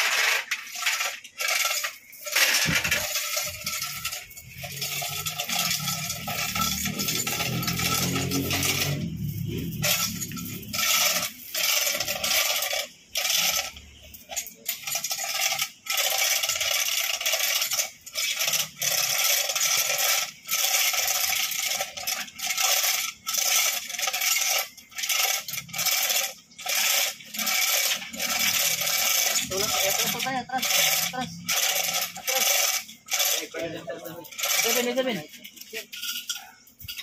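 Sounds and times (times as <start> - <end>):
hoist chain rattling: 0.0 - 37.0.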